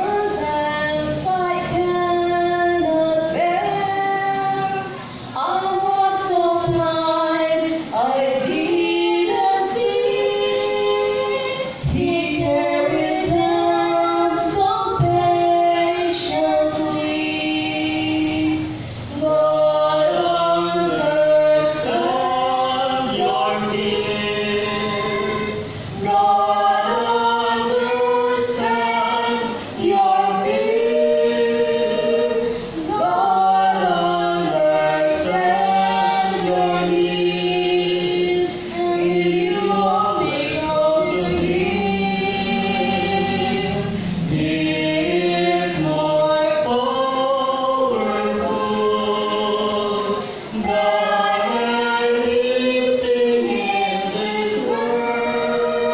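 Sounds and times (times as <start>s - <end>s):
people singing a hymn unaccompanied: 0.0s - 55.9s.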